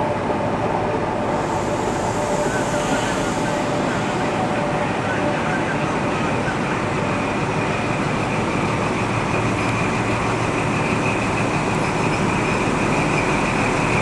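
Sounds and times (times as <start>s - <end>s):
high steady whine: 0.0s - 14.0s
train passing with rumble: 0.0s - 14.0s.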